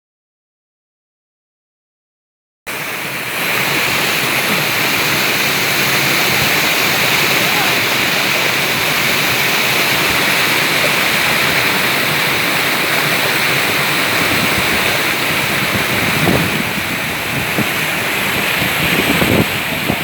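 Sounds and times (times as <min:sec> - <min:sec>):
river water rushing: 0:02.7 - 0:20.0.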